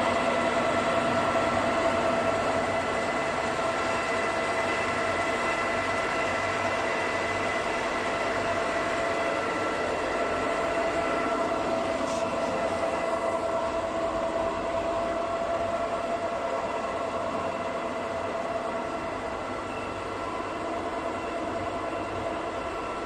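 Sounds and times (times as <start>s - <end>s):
lathe mechanical hum: 0.0s - 23.0s
metal lathe gear whine: 0.0s - 23.0s.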